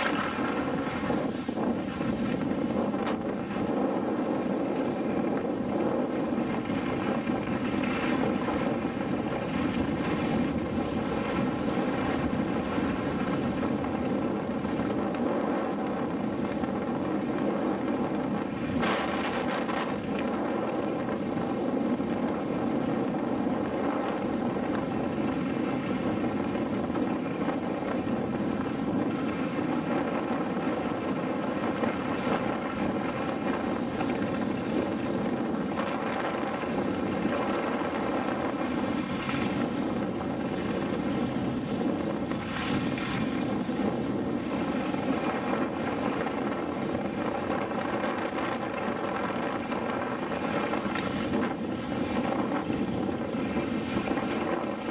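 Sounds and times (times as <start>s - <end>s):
wind noise on microphone: 0.0s - 54.9s.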